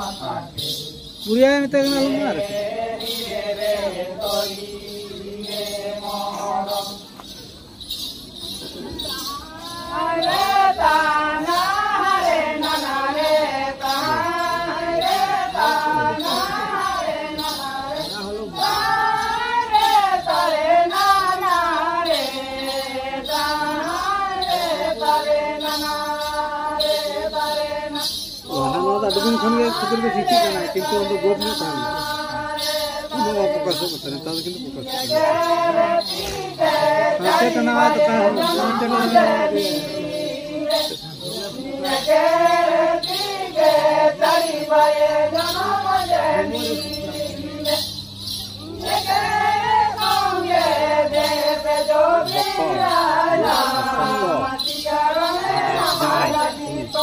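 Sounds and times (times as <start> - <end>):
jingling bells: 0.0 - 57.0
people singing: 0.0 - 57.0.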